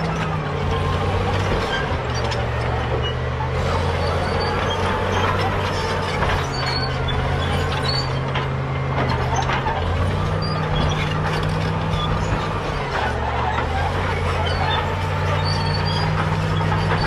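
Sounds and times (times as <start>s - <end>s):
bulldozer diesel engine running: 0.0s - 17.0s
steel tracks squeaking and clanking: 0.0s - 17.0s.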